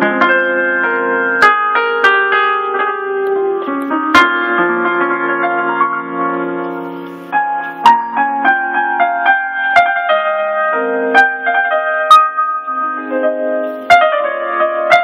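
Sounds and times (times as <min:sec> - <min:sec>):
keyboard piano melody: 0:00.0 - 0:15.0.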